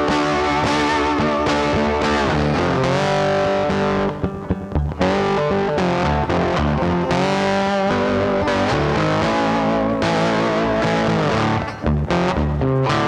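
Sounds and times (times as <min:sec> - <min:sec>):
distorted electric guitar rock: 0:00.0 - 0:13.0.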